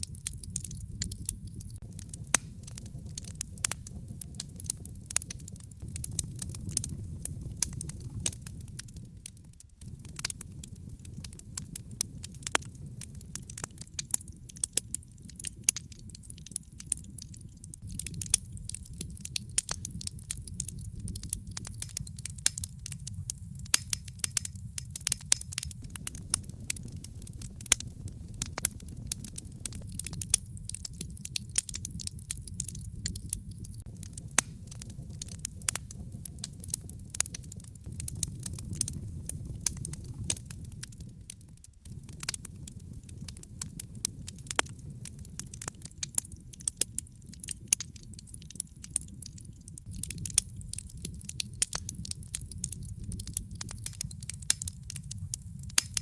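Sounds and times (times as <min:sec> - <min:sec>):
steady low rumble: 0:00.0 - 0:13.8, 0:17.8 - 0:45.6, 0:49.9 - 0:56.0
wood fire crackling and popping: 0:00.0 - 0:56.0.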